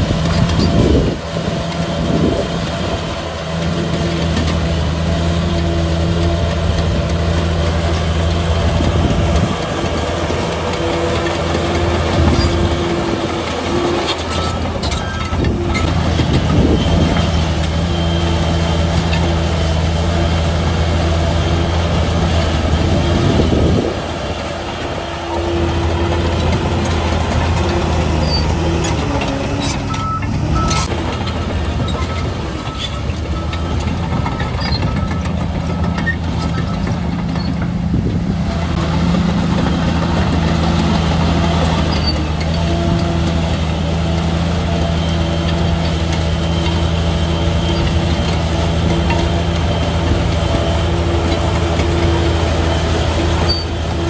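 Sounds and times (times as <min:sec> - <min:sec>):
heavy diesel engine revving: 0:00.0 - 0:54.0.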